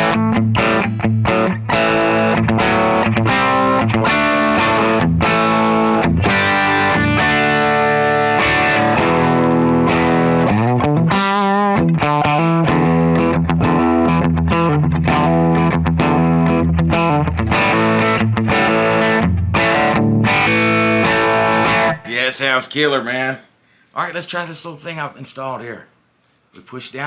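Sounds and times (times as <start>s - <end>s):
distorted electric guitar: 0.0s - 22.1s.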